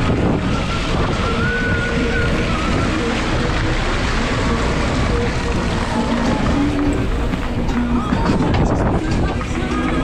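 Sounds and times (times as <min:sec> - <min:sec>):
boat engine: 0:00.0 - 0:10.0
seawater splashing against boat: 0:00.0 - 0:10.0
wind rumble: 0:00.0 - 0:10.0.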